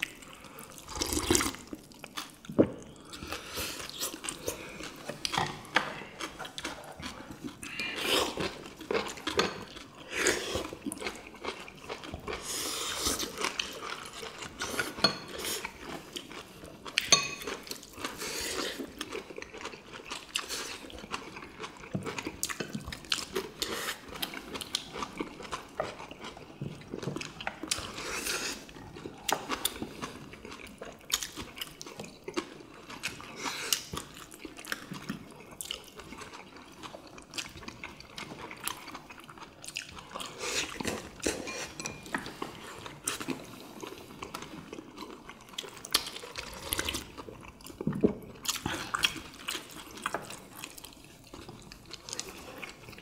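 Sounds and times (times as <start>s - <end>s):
people chewing and eating: 0.0s - 53.0s.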